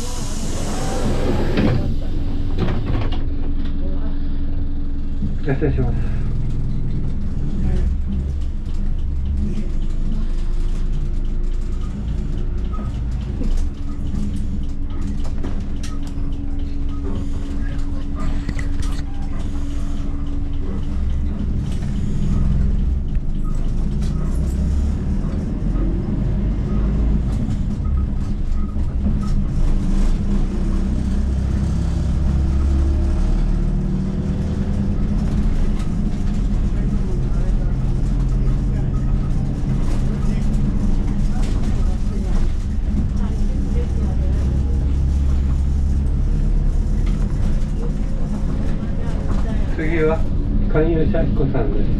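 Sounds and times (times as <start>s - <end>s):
diesel bus engine rumble: 0.0s - 51.9s.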